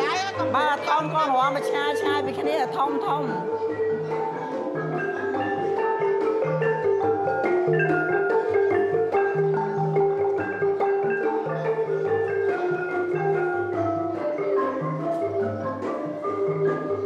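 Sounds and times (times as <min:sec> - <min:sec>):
xylophone-led music: 0:00.0 - 0:17.0.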